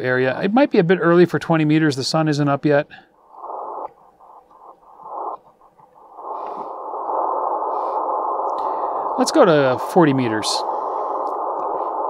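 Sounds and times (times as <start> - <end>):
radio receiver band noise hiss: 0.0 - 12.0.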